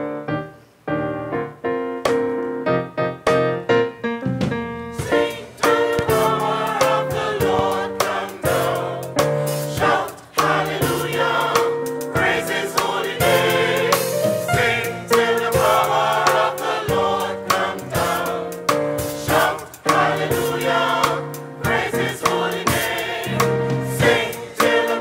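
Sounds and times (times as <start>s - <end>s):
keyboard accompaniment: 0.0s - 25.0s
choir singing gospel song: 5.0s - 25.0s.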